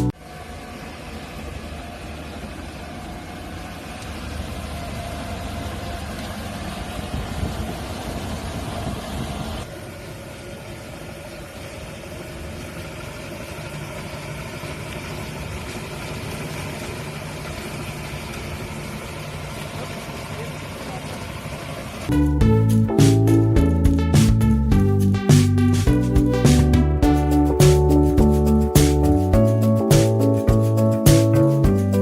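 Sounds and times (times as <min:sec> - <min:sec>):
street sweeper mechanical hum: 0:00.0 - 0:32.0.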